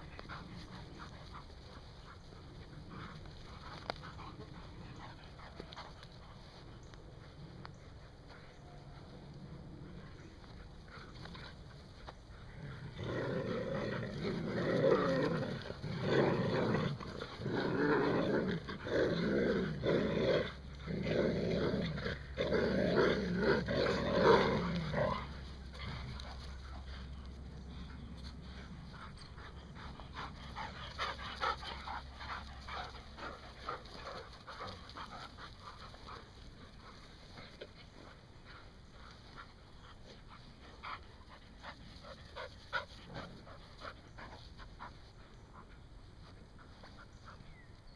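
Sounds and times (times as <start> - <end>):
puppies play-growling: 0.0 - 47.7.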